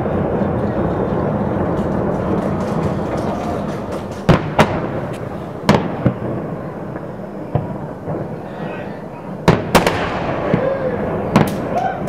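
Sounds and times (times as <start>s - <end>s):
distant firework bangs: 0.0s - 12.0s
sharp firework bangs: 0.0s - 12.0s.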